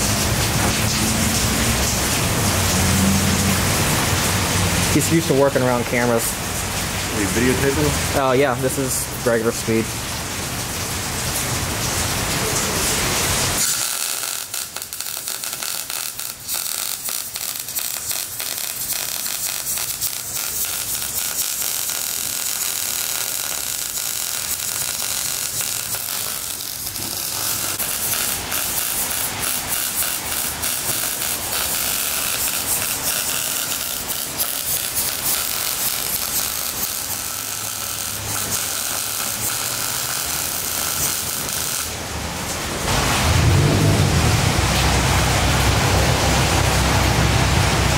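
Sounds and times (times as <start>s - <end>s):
welding arc hissing and crackling: 0.0s - 9.8s, 11.4s - 42.0s.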